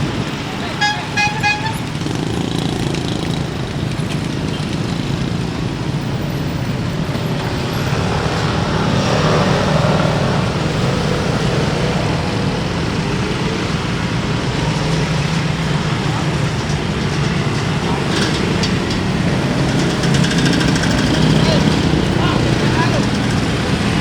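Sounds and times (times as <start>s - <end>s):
traffic noise with engine hum: 0.0s - 24.0s.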